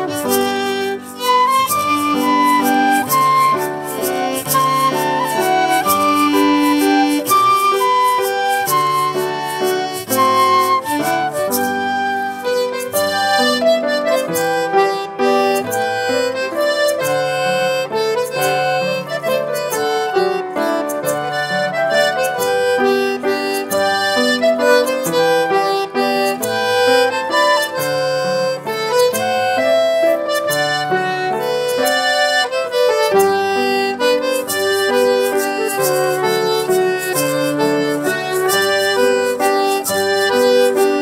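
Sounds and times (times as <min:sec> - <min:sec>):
accordion chords: 0:00.0 - 0:41.0
folk dance band playing: 0:00.0 - 0:41.0.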